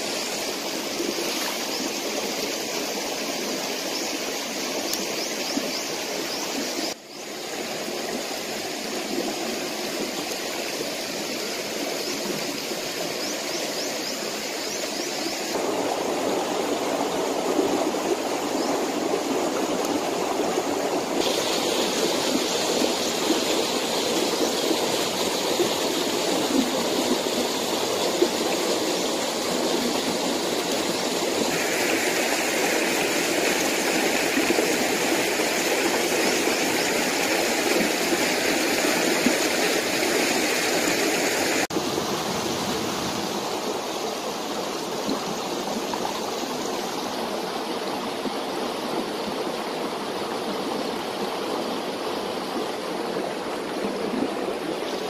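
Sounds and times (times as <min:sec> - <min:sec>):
river flowing over rocks: 0:00.0 - 0:55.0.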